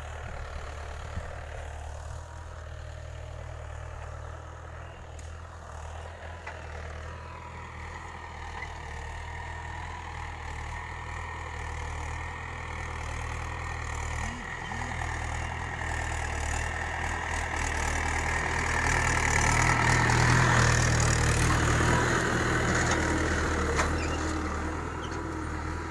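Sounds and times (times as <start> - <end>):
tractor diesel engine running: 0.0 - 25.9.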